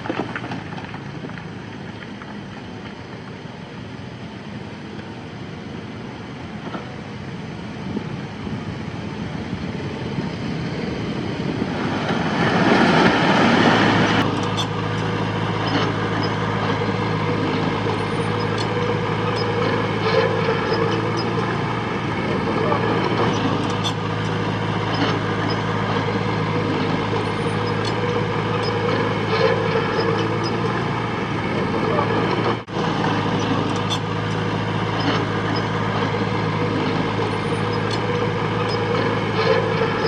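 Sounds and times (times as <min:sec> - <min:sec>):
heavy machinery diesel engine: 0:00.0 - 0:40.0.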